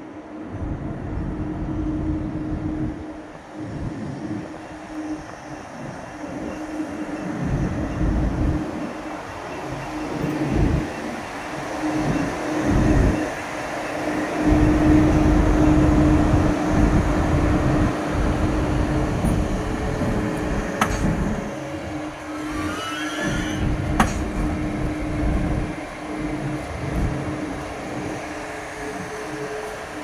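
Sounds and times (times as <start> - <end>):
electric locomotive humming: 0.0 - 30.0
low train rumble: 0.0 - 30.0
rising whining tones: 0.4 - 30.0.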